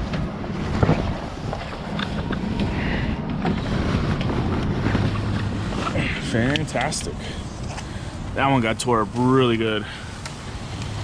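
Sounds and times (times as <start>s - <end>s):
vehicle running: 0.0s - 11.0s
wind rumbling on microphone: 0.0s - 11.0s.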